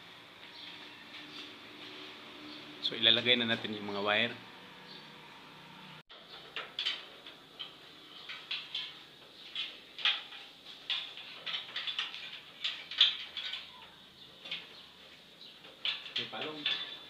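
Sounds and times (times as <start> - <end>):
wire scraping through conduit: 0.5 - 17.0.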